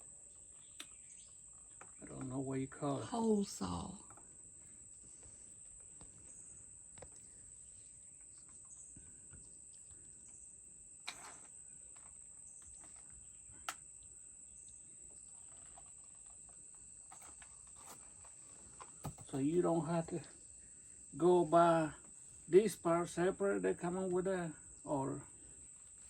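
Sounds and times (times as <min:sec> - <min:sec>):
high-pitched insect chorus: 0:00.1 - 0:26.0.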